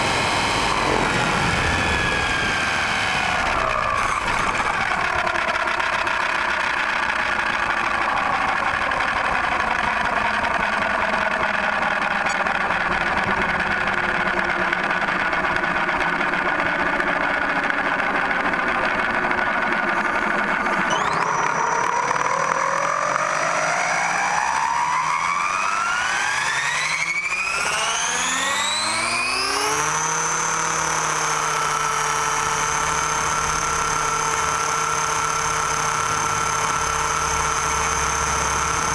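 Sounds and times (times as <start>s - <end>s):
model helicopter rotor whine: 0.0s - 38.9s.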